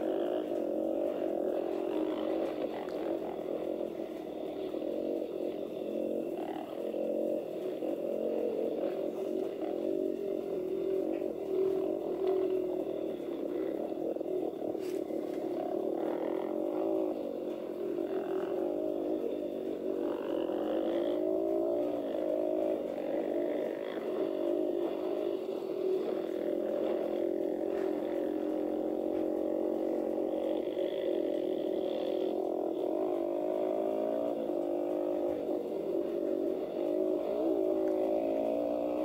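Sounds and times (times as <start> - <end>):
dirt bike engine droning: 0.0 - 39.0.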